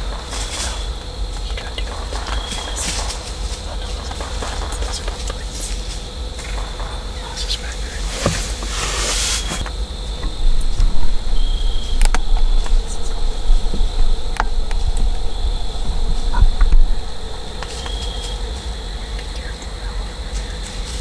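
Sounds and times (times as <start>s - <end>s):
insects trilling: 0.0s - 21.0s
low rumble: 0.0s - 21.0s.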